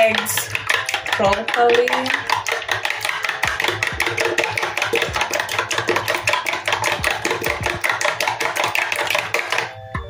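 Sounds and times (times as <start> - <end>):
fork whisking eggs in a bowl: 0.0 - 9.7.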